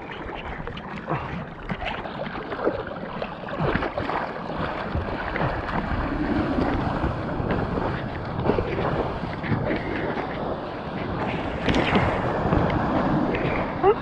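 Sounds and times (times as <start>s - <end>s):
water splashing against surfboard: 0.0s - 14.0s.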